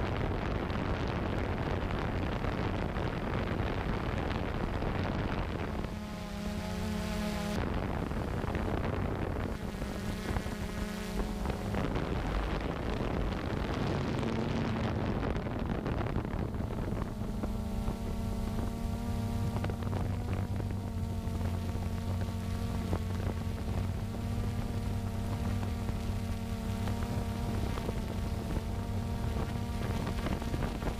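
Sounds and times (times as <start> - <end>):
drone propellers humming: 0.0 - 30.9
wind rushing over microphone: 0.0 - 30.9.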